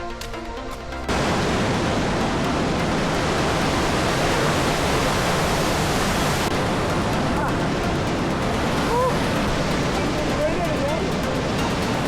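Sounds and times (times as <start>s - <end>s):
background music: 0.0s - 12.0s
waterfall roaring: 1.1s - 12.0s.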